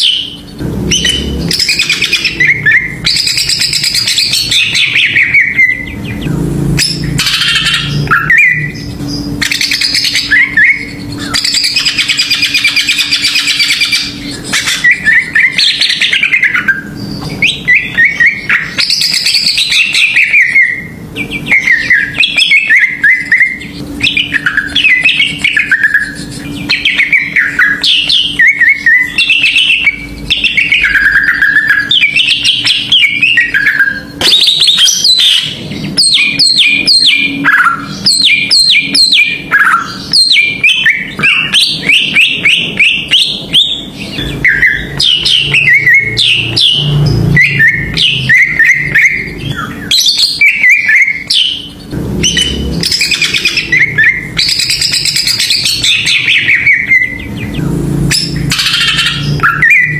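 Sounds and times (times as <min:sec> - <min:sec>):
bird singing whistled notes: 0:00.0 - 0:59.9.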